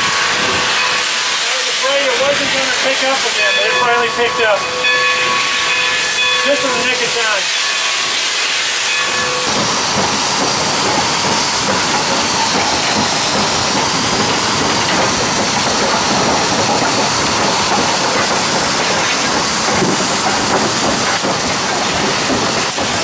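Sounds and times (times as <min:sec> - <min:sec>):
steam locomotive hissing: 0:00.0 - 0:23.0.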